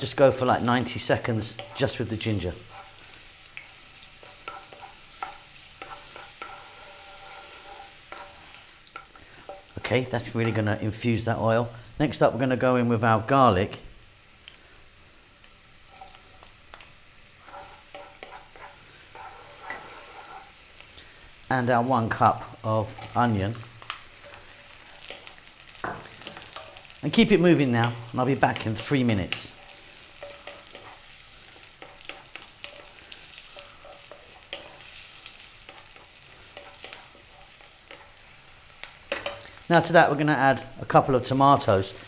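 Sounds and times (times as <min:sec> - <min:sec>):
garlic sizzling in hot oil: 0:00.0 - 0:42.0
spoon scraping wok: 0:00.3 - 0:10.8, 0:15.6 - 0:21.0, 0:21.7 - 0:39.7.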